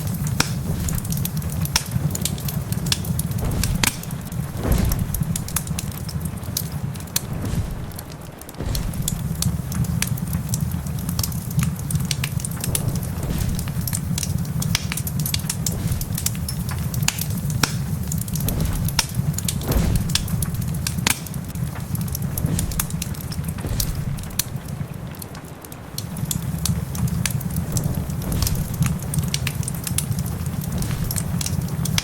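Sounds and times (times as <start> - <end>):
rain pattering: 0.0 - 32.0
wood fire crackling: 0.0 - 32.0.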